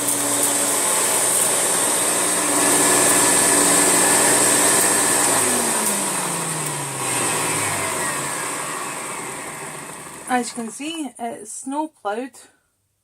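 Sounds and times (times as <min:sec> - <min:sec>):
motor winding down whine: 0:00.0 - 0:10.8
vacuum cleaner running: 0:00.0 - 0:11.0.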